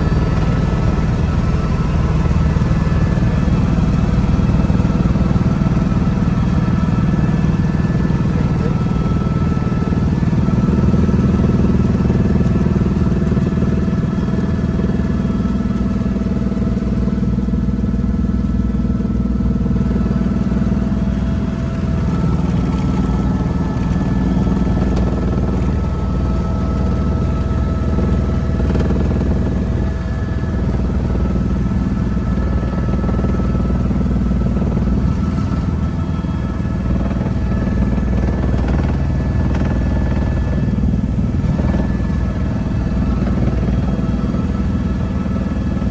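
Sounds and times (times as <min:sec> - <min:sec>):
helicopter running: 0:00.0 - 0:45.9.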